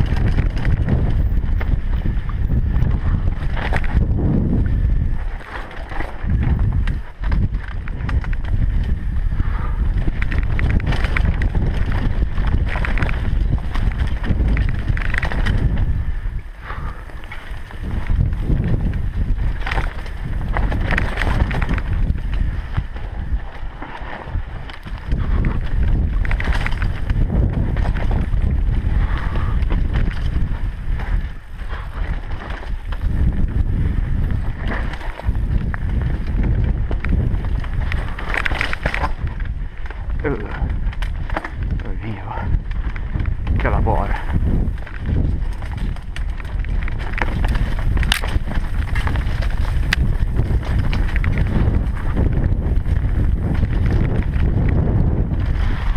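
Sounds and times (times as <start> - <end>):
mountain bike rattling: 0.0 - 55.9
wind rumble on microphone: 0.0 - 55.9.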